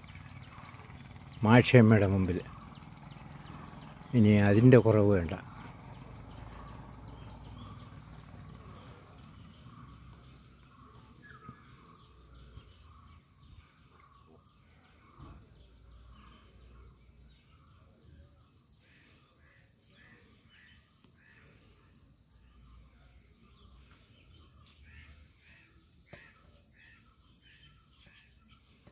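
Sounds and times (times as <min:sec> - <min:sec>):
bird calls: 0:00.0 - 0:28.9.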